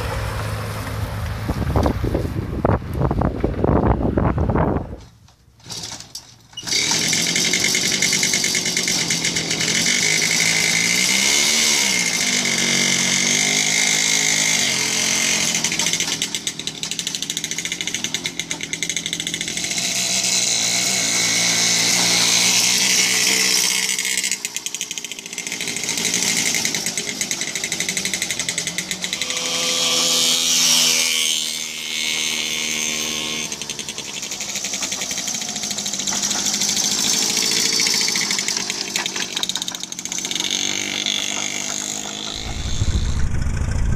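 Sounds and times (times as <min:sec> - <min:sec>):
moped kick-start: 0:05.6 - 0:30.1, 0:31.9 - 0:43.9
two-stroke moped engine revving: 0:06.6 - 0:43.9.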